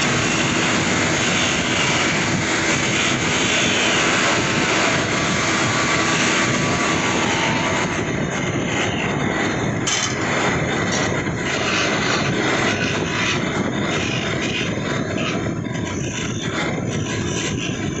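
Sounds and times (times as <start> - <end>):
wood lathe whirring: 0.0 - 18.0.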